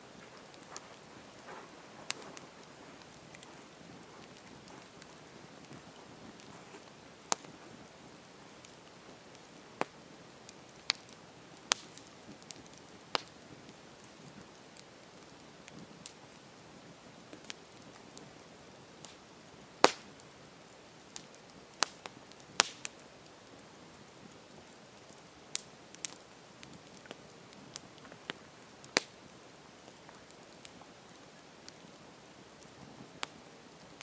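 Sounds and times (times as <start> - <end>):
campfire crackling: 0.0 - 34.0
soft steady hiss: 0.0 - 34.0.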